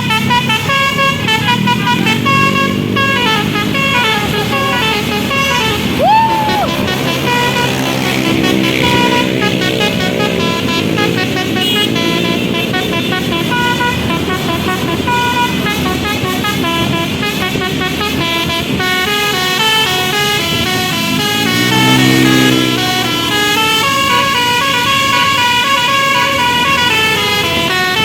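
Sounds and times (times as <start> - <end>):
vehicle engine running: 0.0 - 25.3
multi-tone bus horn melody: 0.0 - 28.0.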